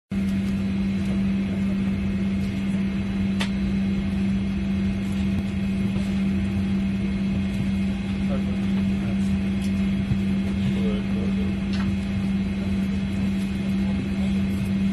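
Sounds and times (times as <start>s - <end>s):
airliner cabin hum: 0.1s - 14.9s.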